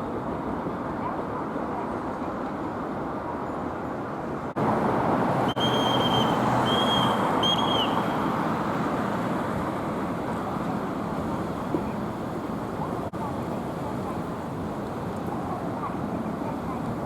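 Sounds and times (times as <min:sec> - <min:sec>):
street traffic: 0:00.0 - 0:17.0
tram running: 0:00.0 - 0:17.0.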